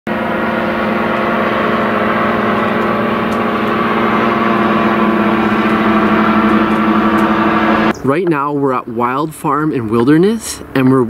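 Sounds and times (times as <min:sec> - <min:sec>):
microlight engines droning overhead: 0:00.1 - 0:11.0.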